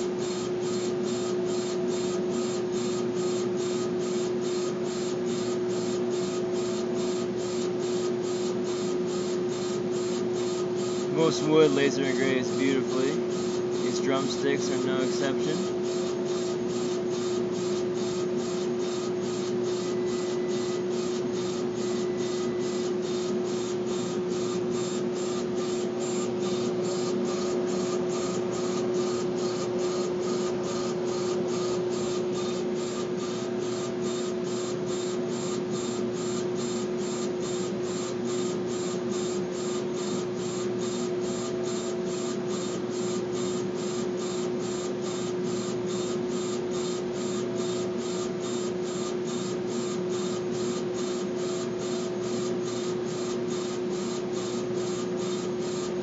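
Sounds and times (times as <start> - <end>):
laser engraver hiss and hum: 0.0 - 56.0.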